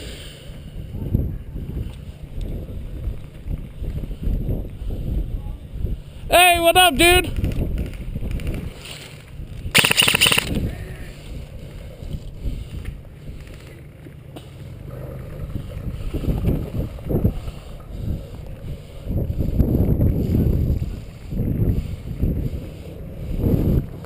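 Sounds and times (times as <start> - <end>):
wind rumble on microphone: 0.0 - 13.7, 14.8 - 24.0.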